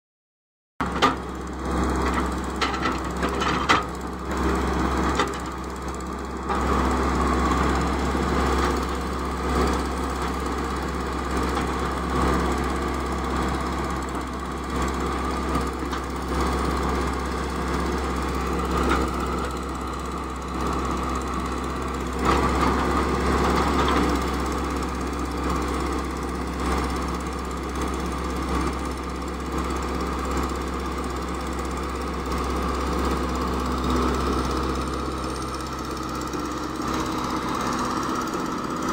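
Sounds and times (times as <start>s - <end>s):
excavator diesel engine running: 0.8s - 38.9s.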